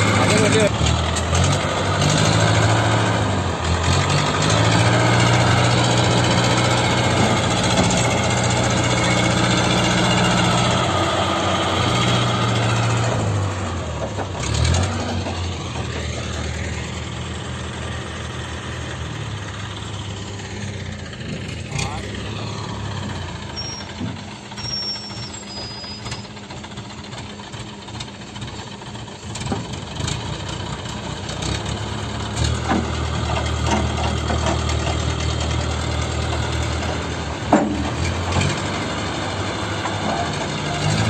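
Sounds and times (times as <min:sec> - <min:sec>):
diesel engine running under load: 0:00.0 - 0:41.0.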